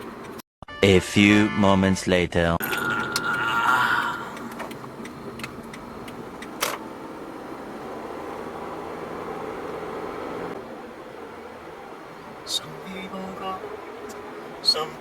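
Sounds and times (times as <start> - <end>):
car road and engine noise: 0.0 - 0.4, 2.6 - 15.0.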